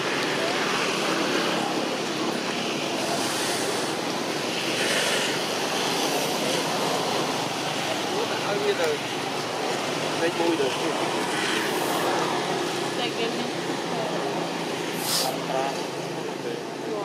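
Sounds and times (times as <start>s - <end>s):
rushing outdoor background noise: 0.0s - 17.0s.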